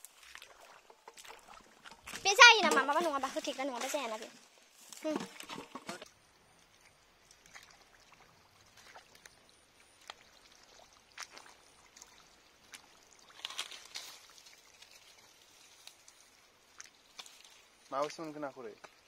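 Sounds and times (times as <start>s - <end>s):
faint water splashing and trickling: 0.0s - 19.0s.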